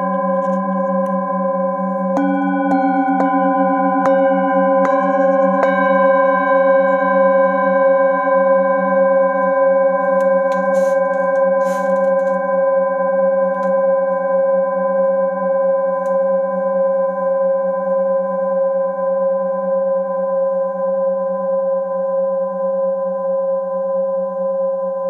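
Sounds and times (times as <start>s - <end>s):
singing bowls ringing: 0.0s - 25.0s.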